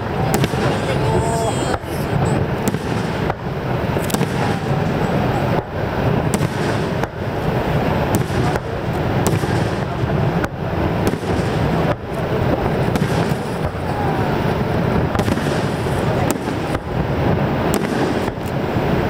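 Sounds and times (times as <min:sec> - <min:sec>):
firework shells booming: 0:00.0 - 0:19.0
sharp firework cracks: 0:00.0 - 0:19.0.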